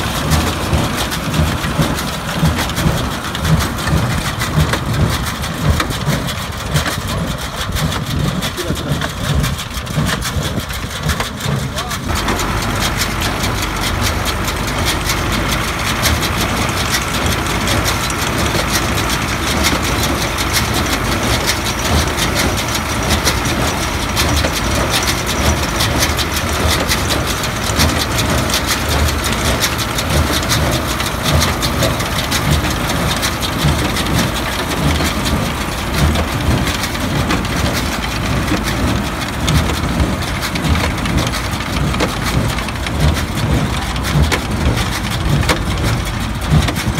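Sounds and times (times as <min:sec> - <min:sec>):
hay baler clattering: 0:00.0 - 0:46.9
tractor engine: 0:00.0 - 0:46.9.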